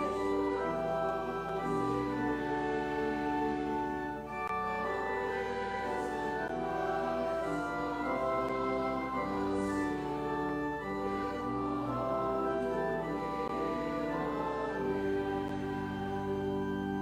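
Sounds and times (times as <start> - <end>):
organ playing slow hymn: 0.0 - 17.0.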